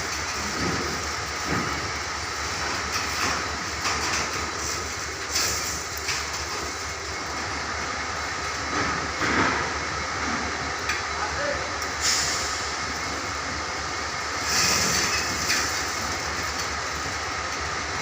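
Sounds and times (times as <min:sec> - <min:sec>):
steady machinery noise: 0:00.0 - 0:18.0.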